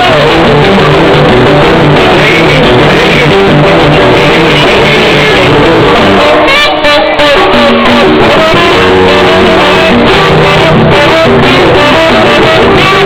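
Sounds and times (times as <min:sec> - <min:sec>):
loud amplified band music: 0:00.0 - 0:13.0.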